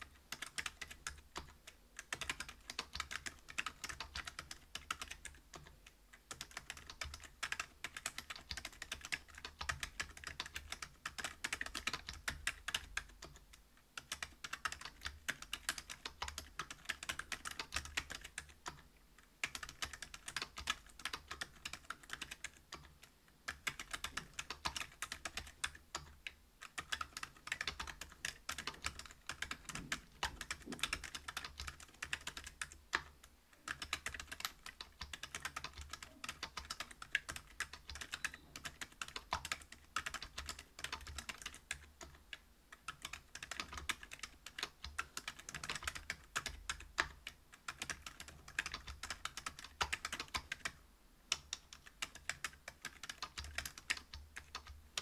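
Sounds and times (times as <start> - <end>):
mechanical keyboard typing: 0.0 - 55.0.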